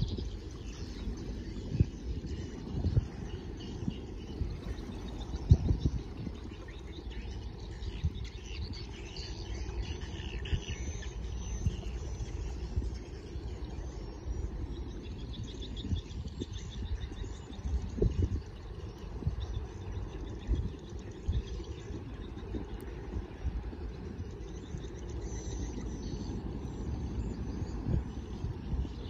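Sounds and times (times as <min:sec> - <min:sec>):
birds chirping: 0:00.0 - 0:29.0
low outdoor rumble: 0:00.0 - 0:29.0.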